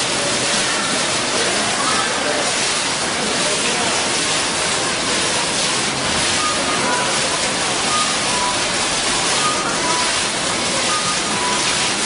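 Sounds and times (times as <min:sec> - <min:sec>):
water falling and splashing: 0:00.0 - 0:12.0.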